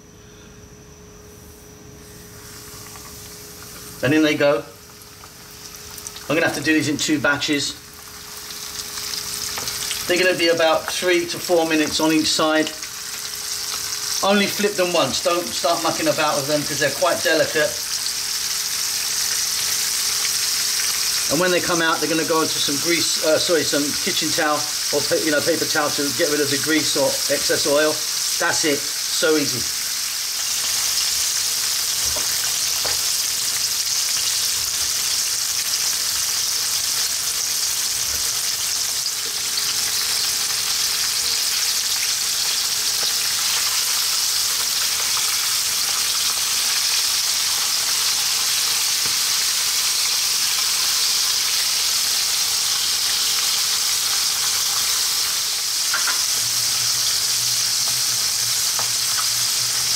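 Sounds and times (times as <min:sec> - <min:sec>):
fish sizzling in oil: 0:02.0 - 0:59.9.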